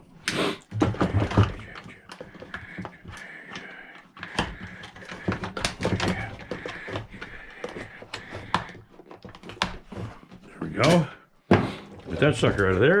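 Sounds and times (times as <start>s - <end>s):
plastic parts clicking and knocking: 0.0s - 13.0s.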